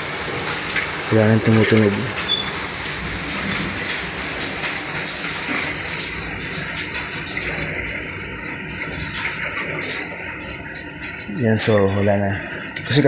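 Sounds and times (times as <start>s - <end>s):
washing machine water sloshing: 0.0s - 13.0s.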